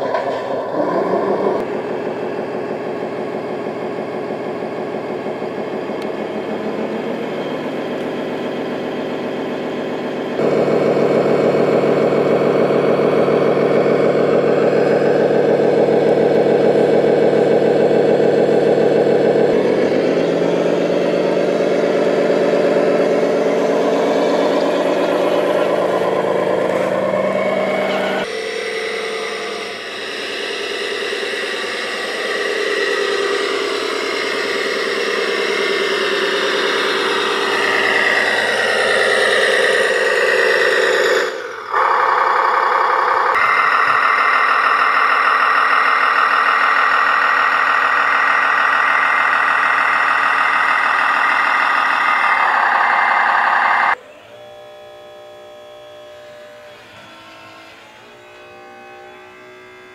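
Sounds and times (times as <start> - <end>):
model construction vehicle engine: 0.0 - 59.9
model truck engine revving: 0.0 - 59.9.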